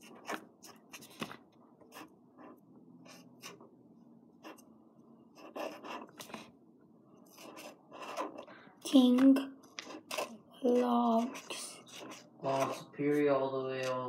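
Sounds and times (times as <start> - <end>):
marker scratching on paper: 0.0 - 3.7, 4.4 - 4.7, 5.3 - 6.5, 7.2 - 14.0.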